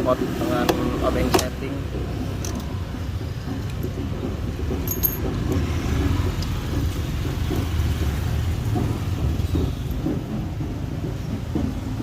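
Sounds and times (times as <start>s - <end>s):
low rumble of road vehicles: 0.0s - 12.0s.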